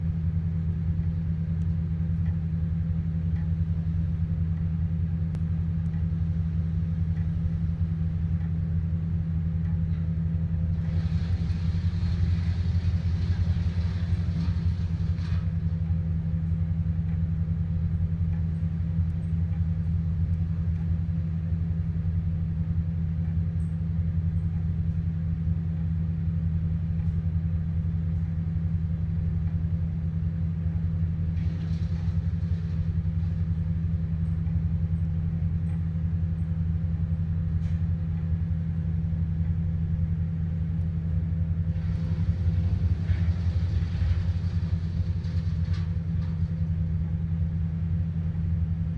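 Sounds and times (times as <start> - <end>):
large engine droning: 0.0 - 48.9.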